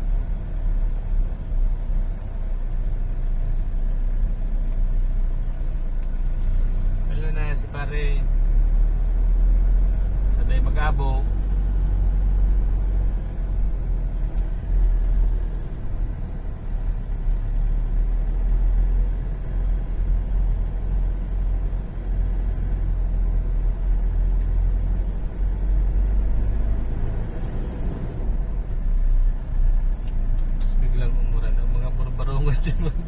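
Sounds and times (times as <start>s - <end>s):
road noise: 0.0s - 33.0s
vehicle engine rumble: 0.0s - 33.0s.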